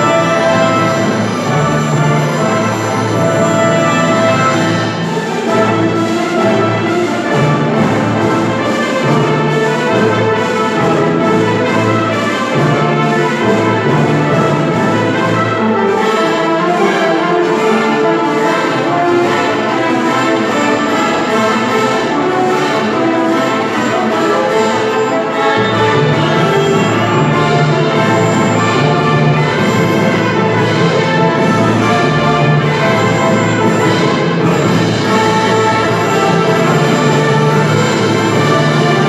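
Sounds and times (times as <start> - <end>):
brass: 0.0 - 39.0
orchestra playing lively dance: 0.0 - 39.0.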